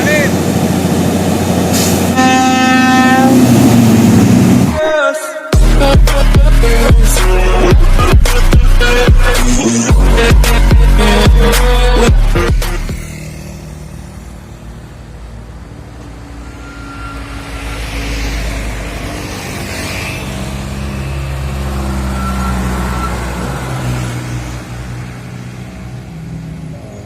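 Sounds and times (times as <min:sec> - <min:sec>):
heavy diesel truck engines: 0:00.0 - 0:04.8, 0:05.6 - 0:27.0.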